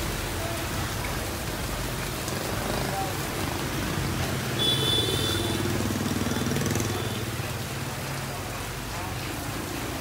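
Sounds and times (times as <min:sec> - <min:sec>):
rain hissing: 0:00.0 - 0:10.0
tyres hissing on wet road: 0:00.0 - 0:10.0.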